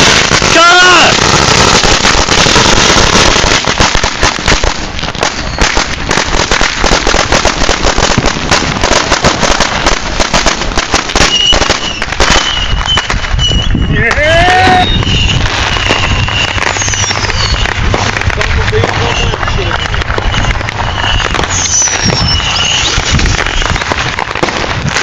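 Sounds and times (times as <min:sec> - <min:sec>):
firecrackers going off: 0:00.0 - 0:25.0.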